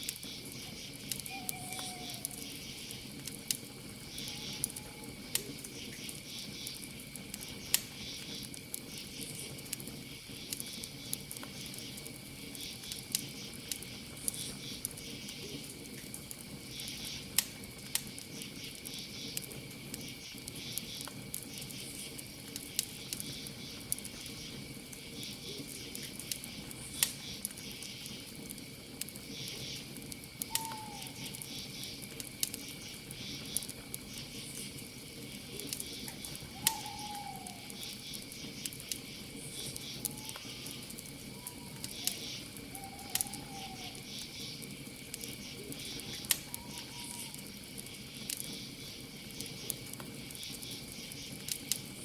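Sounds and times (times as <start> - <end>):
campfire crackling and popping: 0.0 - 52.0
crickets chirping: 0.0 - 52.0.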